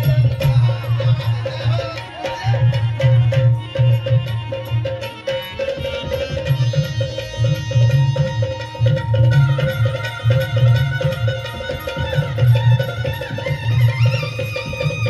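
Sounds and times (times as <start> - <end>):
hand drum beat: 0.0 - 15.0
wavering melody: 0.0 - 15.0.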